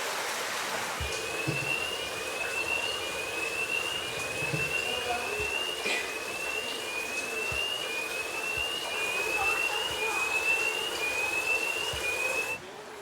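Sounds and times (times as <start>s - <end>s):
electronic alarm tone rising: 1.0s - 12.6s
steady hum: 1.0s - 12.6s.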